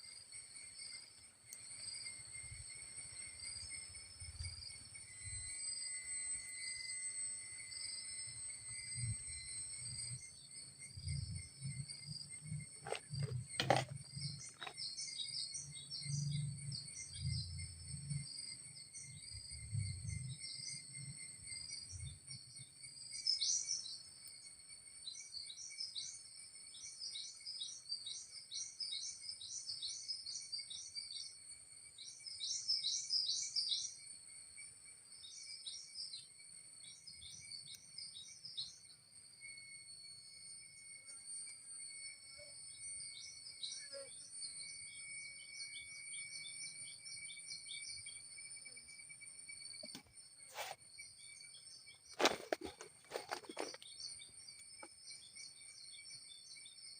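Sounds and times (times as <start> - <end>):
high-pitched insect drone: 0.0 - 56.9.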